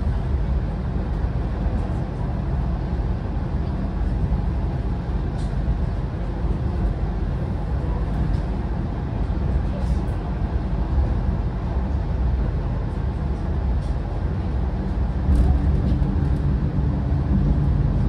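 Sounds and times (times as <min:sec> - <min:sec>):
vehicle rumble in motion: 0:00.0 - 0:18.0.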